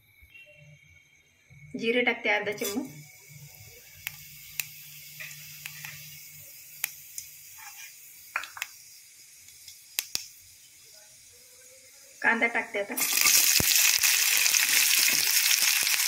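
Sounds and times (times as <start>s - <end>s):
faint hiss: 0.0s - 16.0s
seeds crackling in hot oil: 2.5s - 16.0s.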